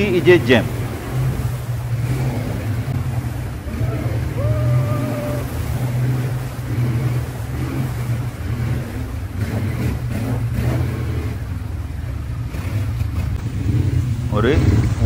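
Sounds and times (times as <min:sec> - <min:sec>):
quad bike engine droning: 0:00.0 - 0:15.0.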